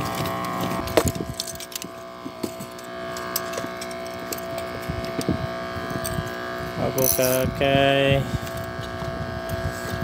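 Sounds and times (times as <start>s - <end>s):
fishing reel clicks and rattles: 0.0s - 9.9s
steady motor hum: 0.0s - 10.0s.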